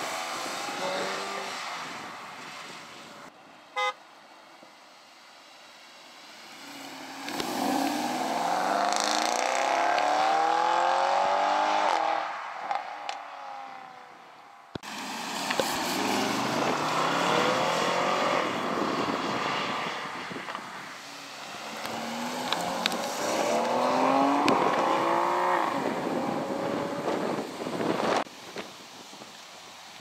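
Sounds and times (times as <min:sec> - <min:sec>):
cars accelerating hard: 0:00.0 - 0:03.3, 0:06.4 - 0:14.1, 0:14.8 - 0:28.3.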